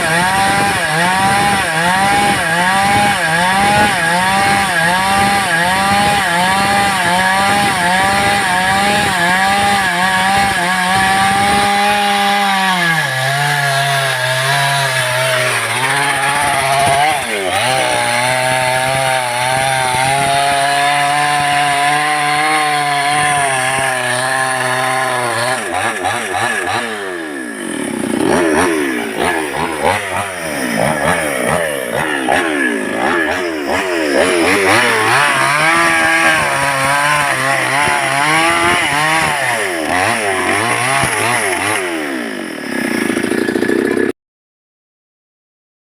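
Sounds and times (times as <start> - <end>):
chainsaw sawing lumber: 0.0 - 44.2.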